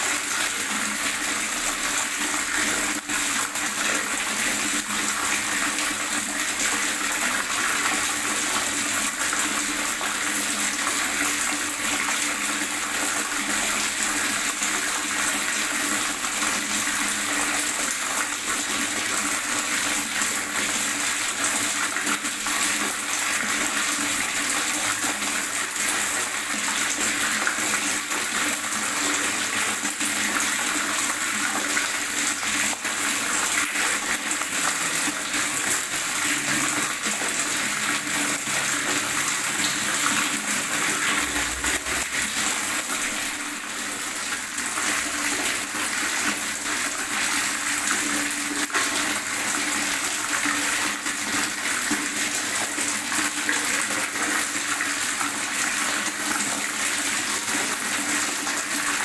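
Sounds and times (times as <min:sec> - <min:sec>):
water gurgling: 0:00.0 - 0:59.0.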